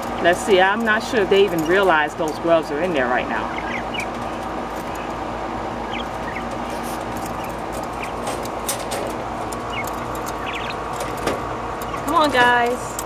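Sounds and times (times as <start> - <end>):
quail chirping: 0.0 - 12.7
steady mechanical hum: 0.0 - 13.0.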